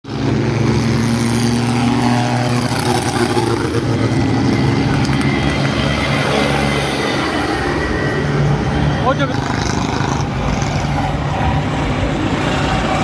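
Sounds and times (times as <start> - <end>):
tractor engine running: 0.1 - 13.0.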